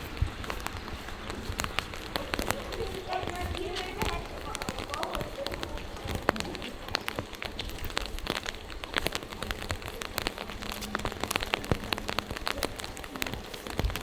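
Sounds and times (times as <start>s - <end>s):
rain falling: 0.0s - 14.0s
raindrops ticking near microphone: 0.0s - 14.0s.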